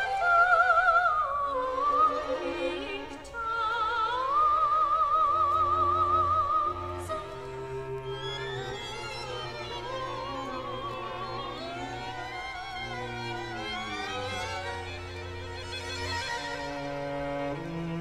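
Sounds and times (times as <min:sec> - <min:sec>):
soprano singing with vibrato: 0:00.0 - 0:16.0
string ensemble: 0:00.0 - 0:18.0.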